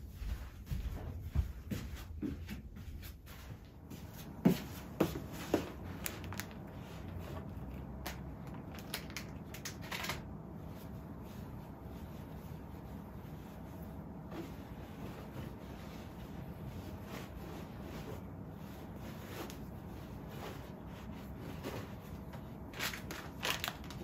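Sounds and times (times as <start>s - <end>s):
fabric rustling: 0.0s - 9.4s, 10.1s - 24.0s.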